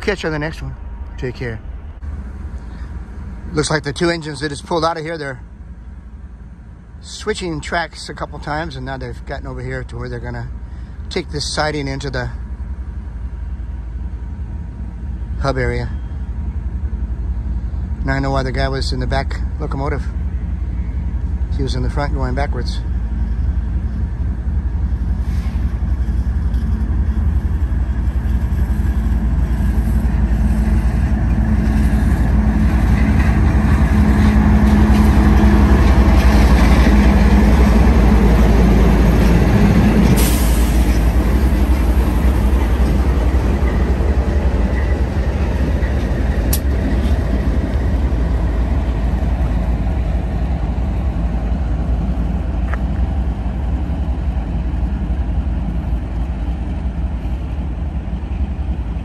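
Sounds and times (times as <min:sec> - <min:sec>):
diesel locomotives rumbling past: 0:00.0 - 0:59.0.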